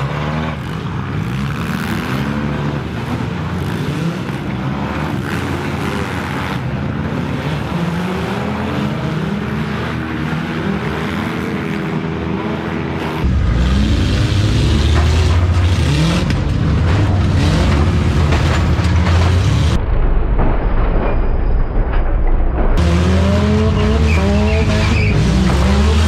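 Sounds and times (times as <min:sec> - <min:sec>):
car engines revving: 0:00.0 - 0:19.8, 0:22.6 - 0:26.0.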